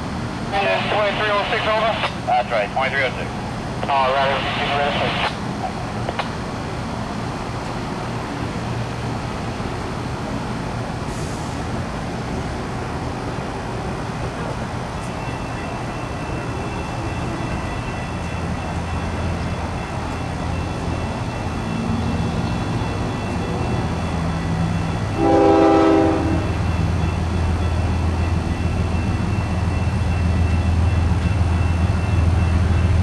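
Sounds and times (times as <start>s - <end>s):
train rumbling by: 0.0s - 33.0s.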